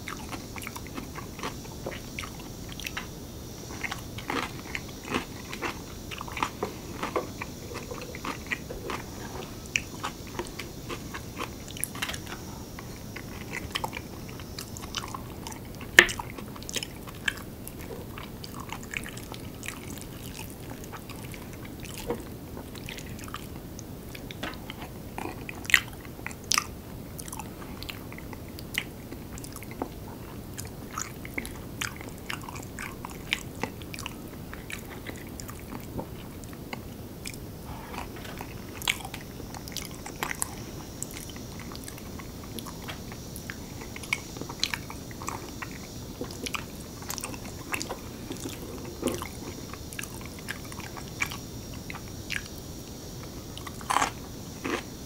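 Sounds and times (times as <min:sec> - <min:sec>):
person chewing: 0:00.0 - 0:54.9.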